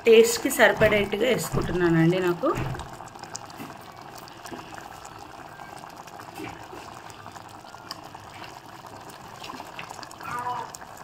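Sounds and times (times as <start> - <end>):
curry bubbling and sizzling: 0.0 - 11.0.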